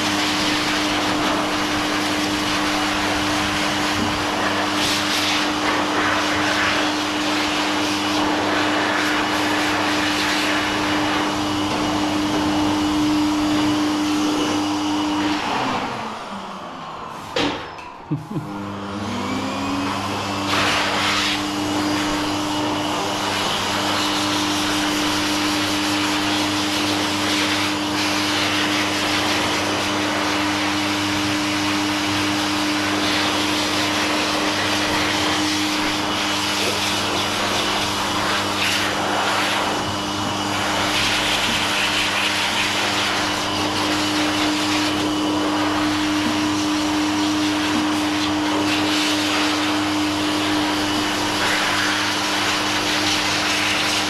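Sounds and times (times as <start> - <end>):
blow dryer motor whine: 0.0 - 54.0.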